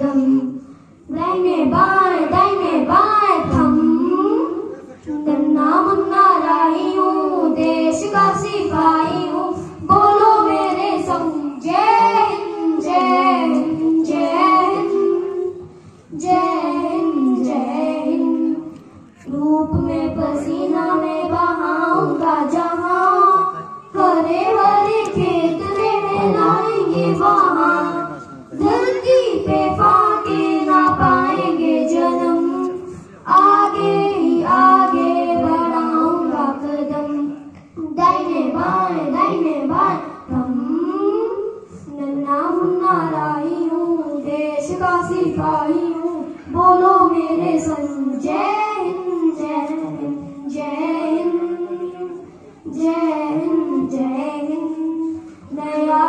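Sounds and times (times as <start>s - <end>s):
girl singing into a microphone: 0.0s - 56.0s.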